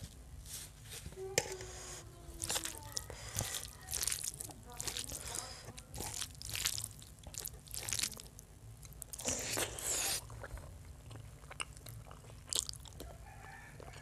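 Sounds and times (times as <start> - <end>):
wet chewing: 1.7 - 14.0.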